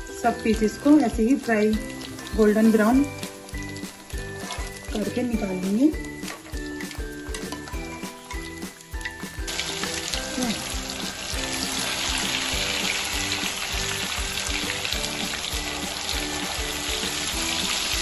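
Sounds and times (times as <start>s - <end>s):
background music with steady beat: 0.0s - 18.0s
fish sizzling in hot oil: 0.0s - 18.0s.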